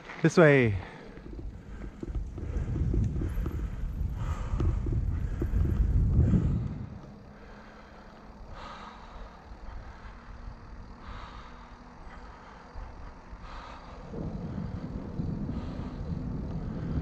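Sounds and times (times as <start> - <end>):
bike tyres rumbling on asphalt: 0.0 - 17.0
faint even hum: 0.0 - 17.0.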